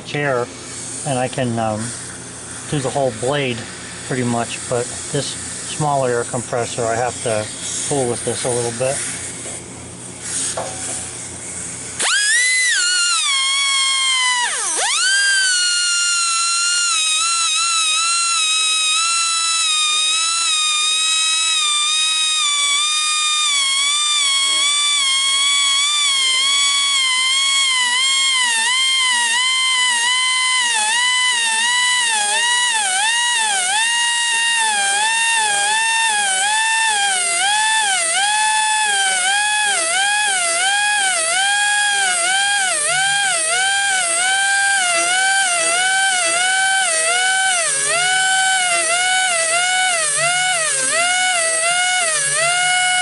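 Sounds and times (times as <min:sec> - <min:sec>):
air grinder whining: 0:00.0 - 0:53.0.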